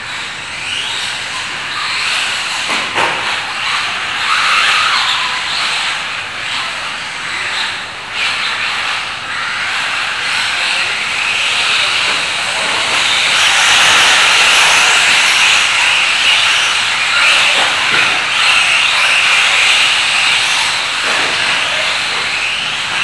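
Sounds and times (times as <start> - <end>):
rc trucks motors hissing: 0.1 - 23.0.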